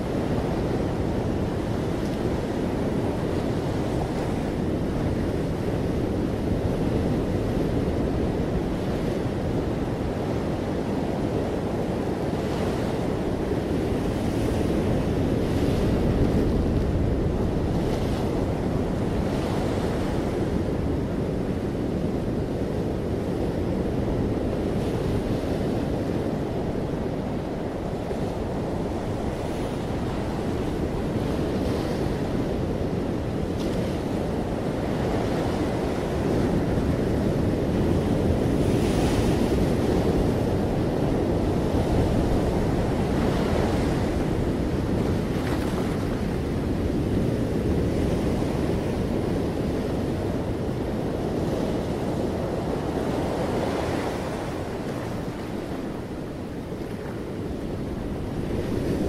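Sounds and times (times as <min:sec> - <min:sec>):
ocean waves washing up beach: 0:00.0 - 0:59.0.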